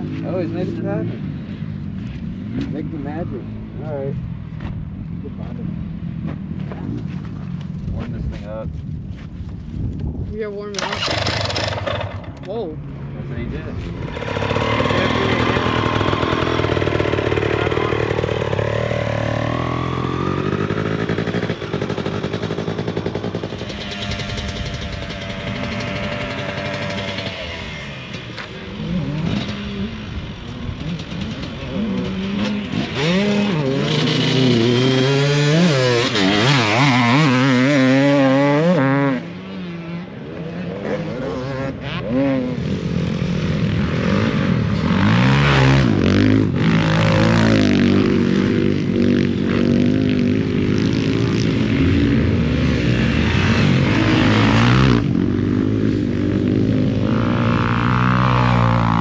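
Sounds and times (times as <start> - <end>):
dirt bike engines revving: 0.0 - 8.7, 10.3 - 59.0.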